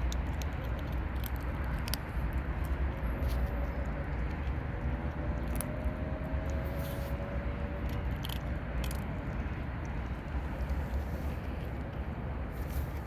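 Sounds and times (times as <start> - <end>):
kittens crunching dry food: 0.0 - 13.0
steady low rumble: 0.0 - 13.0.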